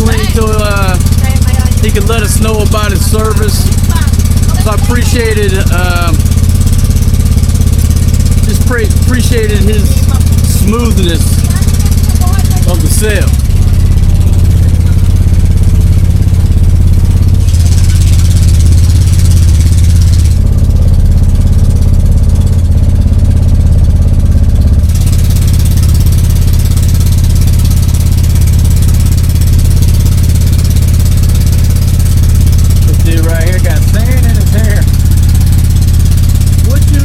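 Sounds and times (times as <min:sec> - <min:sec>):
boat engine humming: 0:00.0 - 0:37.0.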